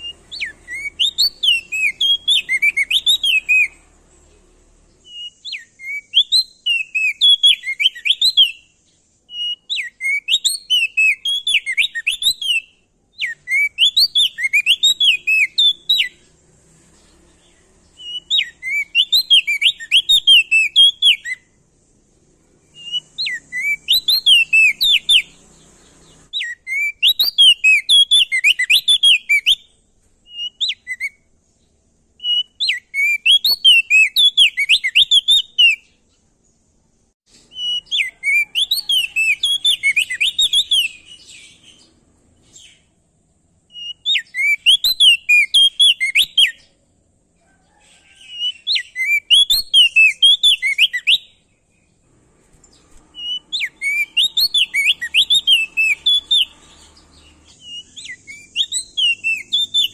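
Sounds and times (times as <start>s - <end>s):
songbird chattering song: 0.0s - 59.9s.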